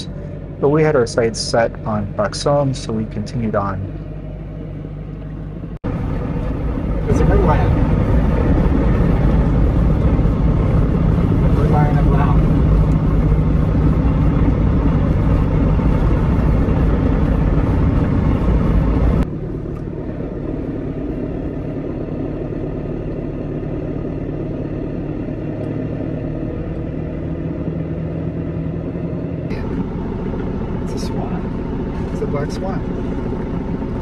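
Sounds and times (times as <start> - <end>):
car engine and road drone: 0.0 - 34.0.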